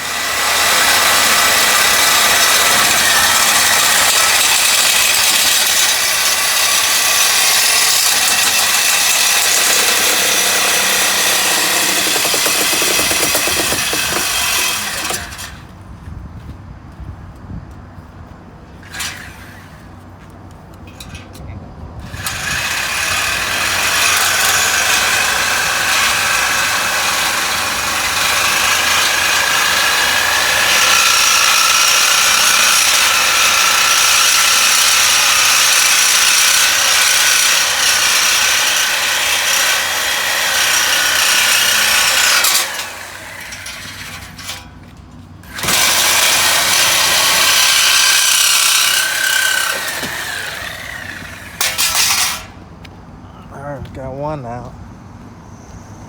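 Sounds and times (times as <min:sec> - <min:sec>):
power tool cutting metal pipe: 0:00.0 - 0:15.5, 0:22.2 - 0:44.6, 0:45.4 - 0:52.5.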